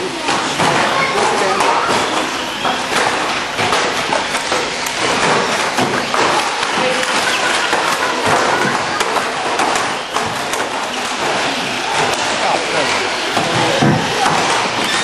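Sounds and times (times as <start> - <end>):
toy cars knocking and clattering: 0.0 - 15.0.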